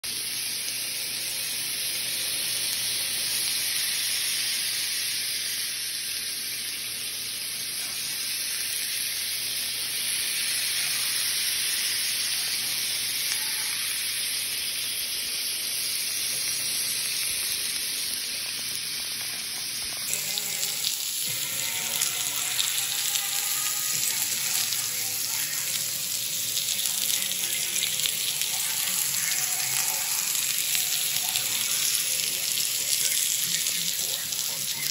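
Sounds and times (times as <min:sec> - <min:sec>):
food sizzling on grill pan: 0:00.0 - 0:34.9.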